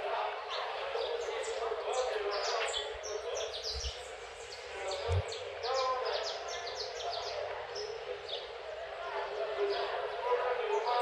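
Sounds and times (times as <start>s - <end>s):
flock of small birds chirping: 0.0s - 11.0s.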